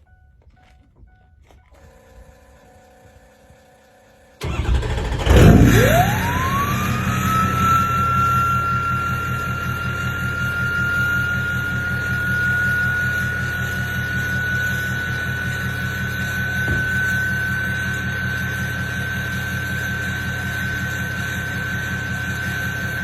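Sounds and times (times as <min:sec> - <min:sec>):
diesel engine cranking and idling: 0:00.4 - 0:23.0
turbocharger whistle: 0:04.4 - 0:23.0.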